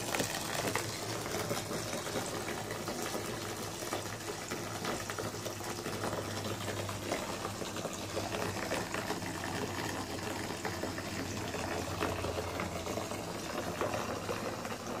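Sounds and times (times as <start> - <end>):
water running into bathtub: 0.0 - 15.0.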